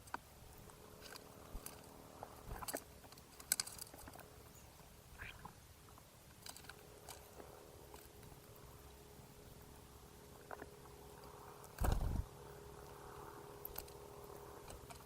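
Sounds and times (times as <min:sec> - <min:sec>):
birds pecking and cracking seed: 0:00.0 - 0:15.0
faint steady hum: 0:00.0 - 0:15.0.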